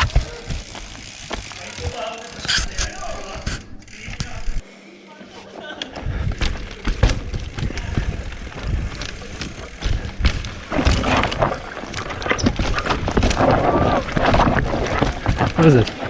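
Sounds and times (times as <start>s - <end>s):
bike knocks and rattles: 0.0s - 4.6s, 6.0s - 16.0s
bike tyres rumbling on dirt: 0.0s - 4.6s, 6.0s - 16.0s.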